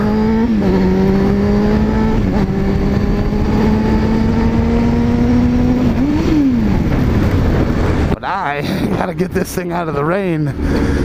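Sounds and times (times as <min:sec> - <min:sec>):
steady rush of noise: 0:01.8 - 0:11.0.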